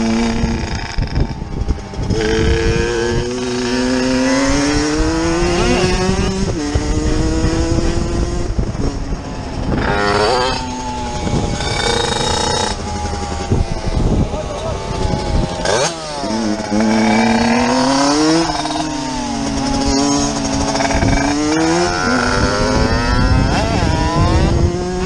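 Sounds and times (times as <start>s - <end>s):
motorcycle engine accelerating: 0.0s - 25.0s
wind noise: 0.0s - 25.0s.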